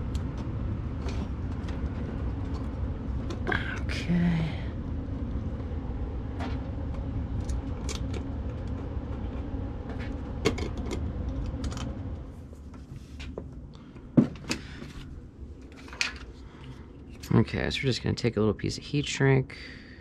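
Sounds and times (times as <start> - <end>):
low rumble: 0.0 - 17.3.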